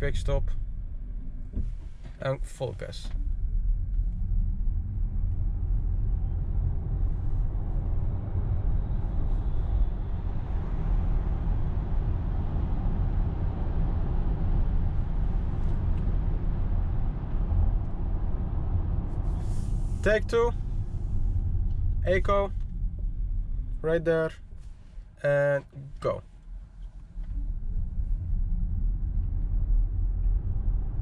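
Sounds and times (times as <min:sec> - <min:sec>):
tyre and road noise rumble: 0:00.0 - 0:31.0.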